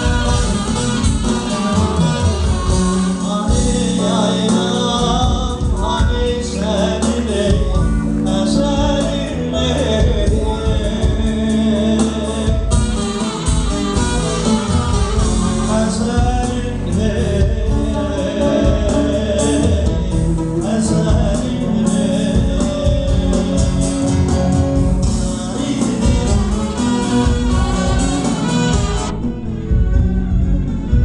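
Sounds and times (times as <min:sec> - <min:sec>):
driving drum beat: 0:00.0 - 0:31.0
folk dance music: 0:00.0 - 0:31.0
person singing: 0:00.0 - 0:31.0.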